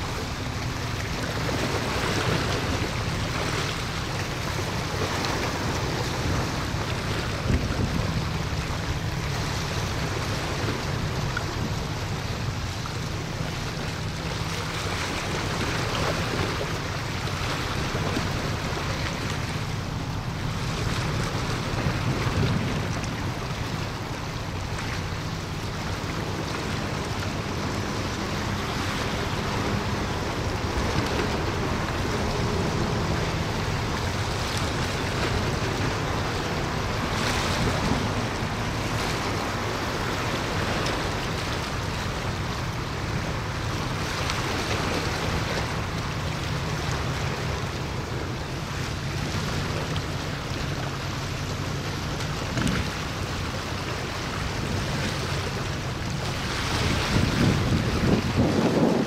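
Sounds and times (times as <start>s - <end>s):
wind buffeting microphone: 0.0s - 13.5s, 15.4s - 49.5s, 52.3s - 59.0s
low engine hum: 0.0s - 59.0s
rushing water: 0.0s - 59.0s.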